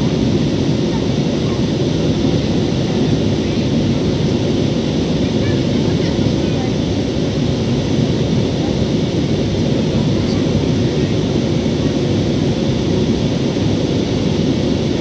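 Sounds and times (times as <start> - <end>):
airflow in cabin: 0.0 - 15.0
jet engines rumbling: 0.0 - 15.0.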